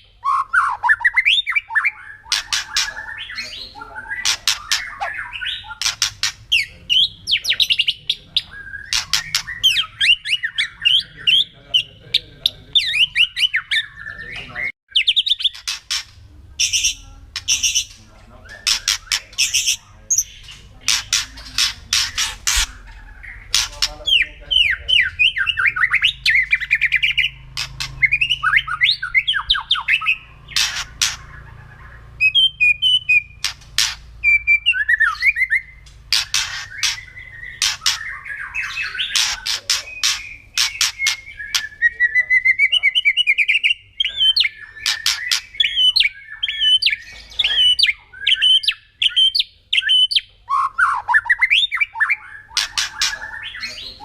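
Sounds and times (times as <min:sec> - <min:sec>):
bird warbling: 0:00.0 - 0:54.0.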